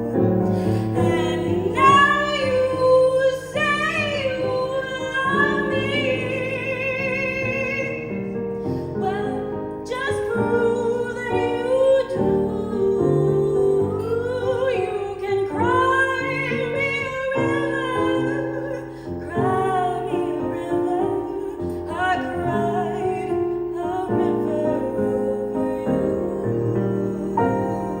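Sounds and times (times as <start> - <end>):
piano: 0.0 - 28.0
woman singing a ballad: 0.0 - 28.0.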